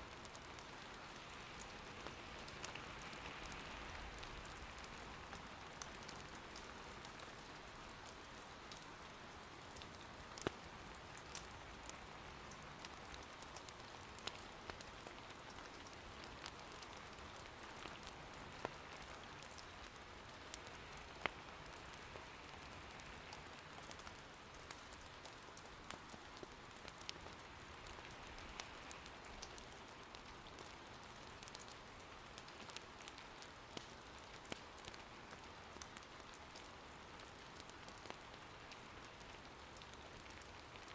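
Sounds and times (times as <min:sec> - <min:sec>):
rain patter: 0:00.0 - 0:40.9
firewood crackling: 0:00.1 - 0:40.9.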